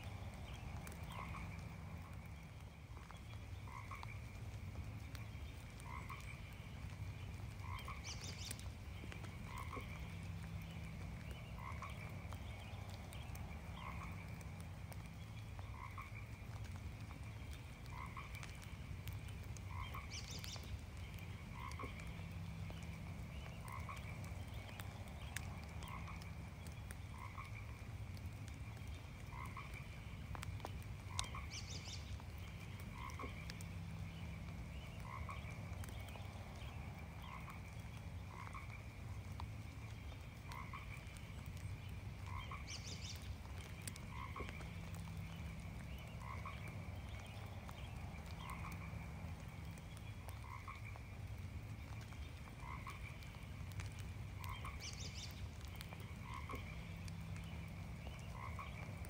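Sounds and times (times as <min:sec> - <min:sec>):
frogs croaking: 0:00.0 - 0:59.0
light rain dripping: 0:00.0 - 0:59.0.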